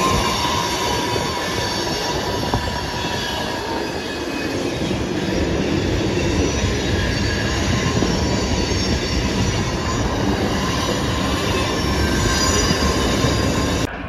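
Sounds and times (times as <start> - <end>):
high-pitched wheel squeals: 0.0 - 13.9
freight train cars rumbling: 0.0 - 14.0.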